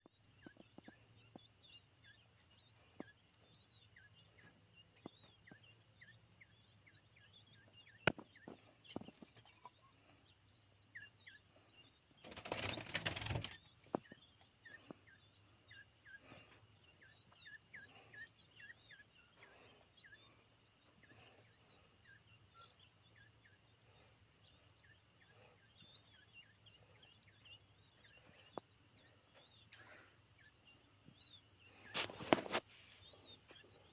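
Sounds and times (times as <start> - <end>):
pulsing insect trill: 0.0 - 33.9
quail chirping: 0.0 - 33.9.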